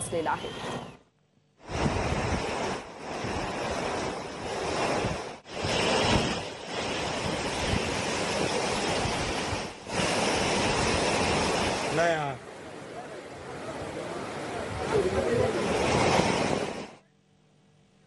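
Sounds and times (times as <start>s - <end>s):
floodwater rushing: 1.6s - 17.0s.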